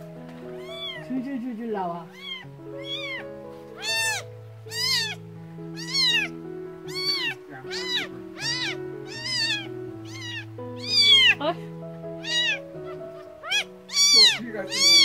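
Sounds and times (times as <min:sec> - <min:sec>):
soft background music: 0:00.0 - 0:15.0
kitten mewing: 0:00.6 - 0:01.1, 0:02.0 - 0:15.0.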